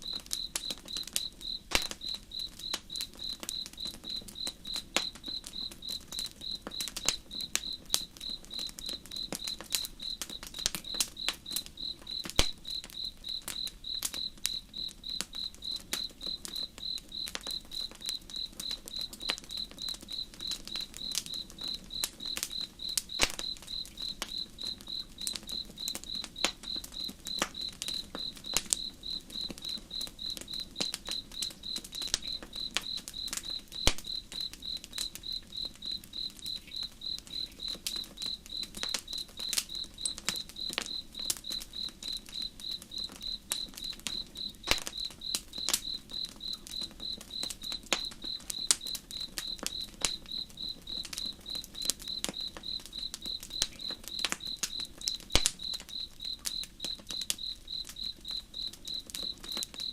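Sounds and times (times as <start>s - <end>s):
campfire crackling: 0.0s - 59.9s
cricket chirping: 0.0s - 59.9s.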